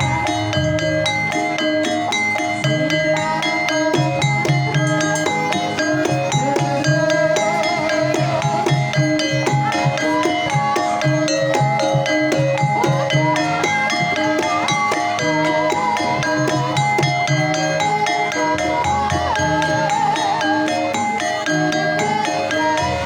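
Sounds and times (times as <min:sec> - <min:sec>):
metallophones ringing: 0:00.0 - 0:23.0
woman singing wavering melody: 0:00.0 - 0:23.0.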